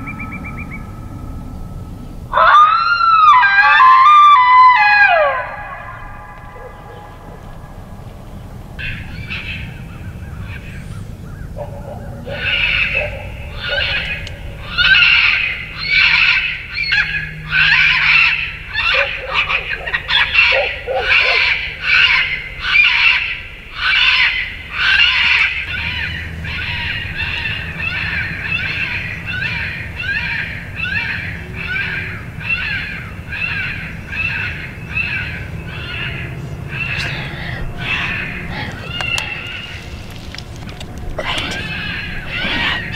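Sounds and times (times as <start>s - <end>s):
electronic prey distress call: 0.0s - 10.8s, 12.3s - 40.1s, 40.8s - 42.9s.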